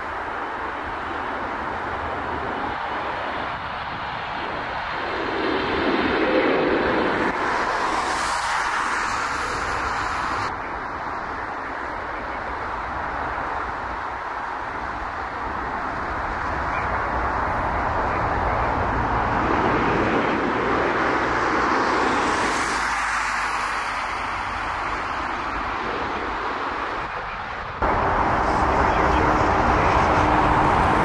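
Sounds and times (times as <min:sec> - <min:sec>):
jet airliner roar: 0:00.0 - 0:31.0.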